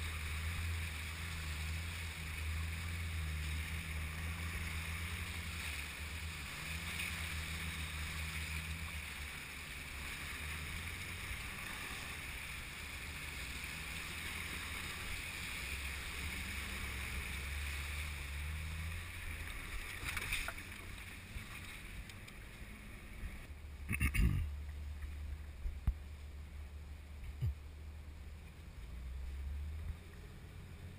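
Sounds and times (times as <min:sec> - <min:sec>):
car engine running at low revs: 0:00.0 - 0:30.9
water rushing against vehicle: 0:00.0 - 0:30.9.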